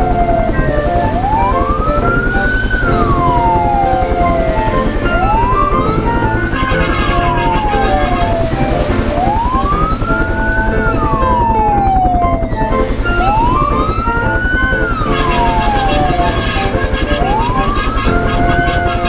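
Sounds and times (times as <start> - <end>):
background music: 0.0 - 19.0
wailing siren: 0.0 - 19.0.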